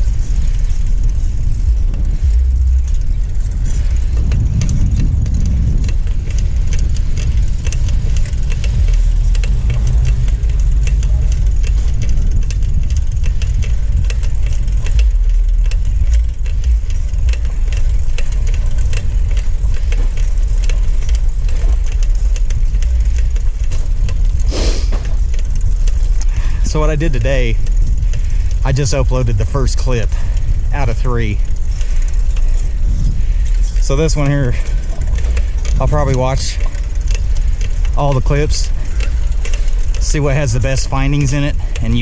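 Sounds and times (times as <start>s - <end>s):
bicycle clicks and rattles: 0.0s - 42.0s
wind rumble on microphone: 0.0s - 42.0s.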